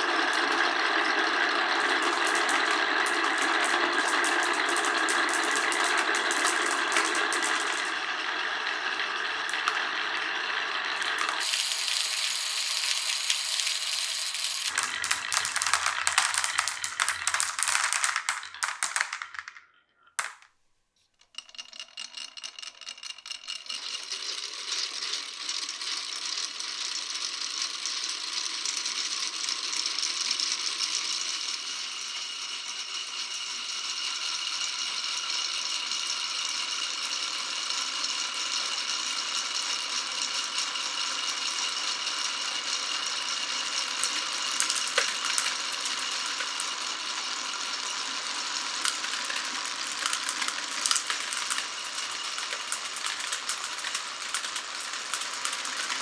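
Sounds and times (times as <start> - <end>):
marbles rattling along tracks: 0.0 - 20.5, 21.2 - 56.0.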